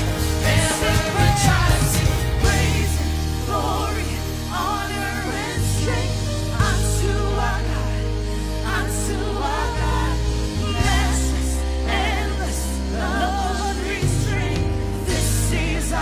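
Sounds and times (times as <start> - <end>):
gospel singing voices: 0.0 - 16.0
held bass notes: 0.0 - 16.0.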